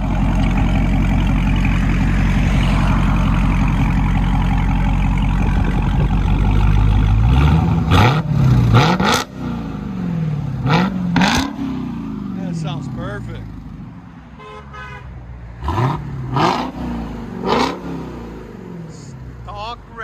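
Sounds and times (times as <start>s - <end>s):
car engine revving: 0.0s - 14.0s, 15.6s - 19.1s.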